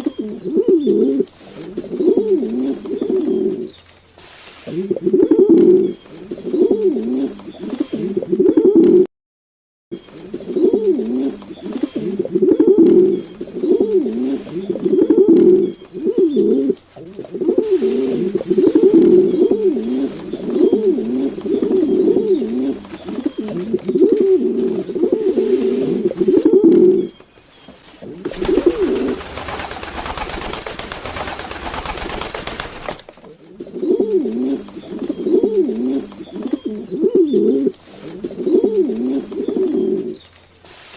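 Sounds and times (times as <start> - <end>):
pigeons cooing: 0.0 - 9.1, 10.0 - 27.2, 28.0 - 40.2.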